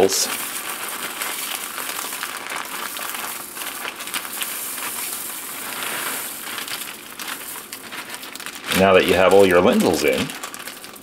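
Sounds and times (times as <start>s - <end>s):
broth crackling and hissing in pot: 0.0s - 11.0s
wooden spoon stirring lentils: 0.0s - 11.0s.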